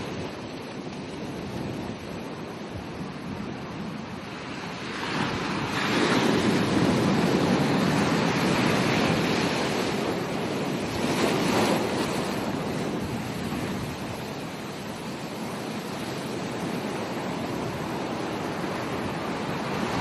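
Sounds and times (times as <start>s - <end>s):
ocean waves breaking: 0.0s - 20.0s
wind on microphone: 0.0s - 20.0s.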